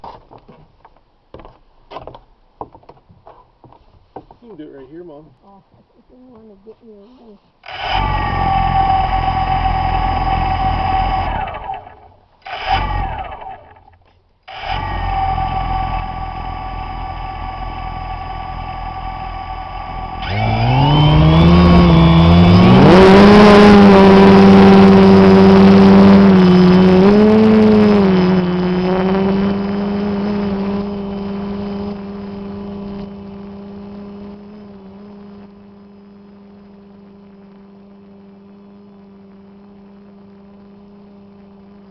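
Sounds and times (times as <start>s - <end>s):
drone propeller motors humming: 7.6s - 41.9s.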